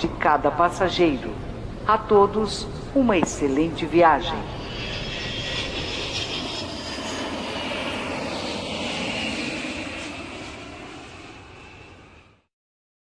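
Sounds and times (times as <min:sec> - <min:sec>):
airplane engines rushing: 0:00.0 - 0:12.5.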